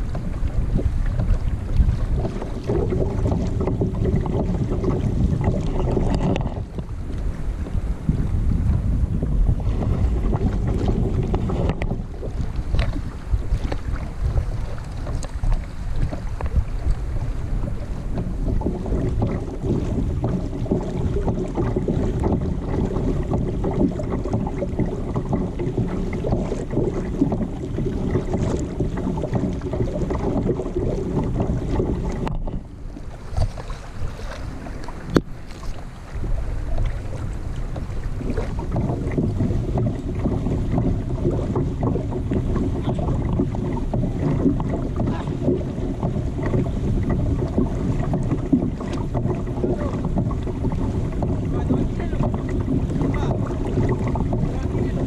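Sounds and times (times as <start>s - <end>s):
water noise from kayak: 0.0s - 55.0s
wind buffeting microphone: 0.0s - 55.0s.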